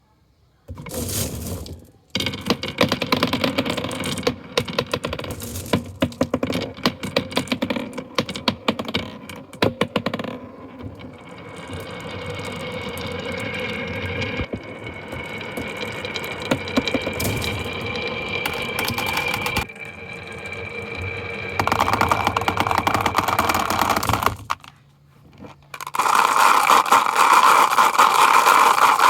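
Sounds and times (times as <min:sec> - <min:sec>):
marbles rattling down wooden track: 0:00.7 - 0:24.7, 0:25.4 - 0:29.0.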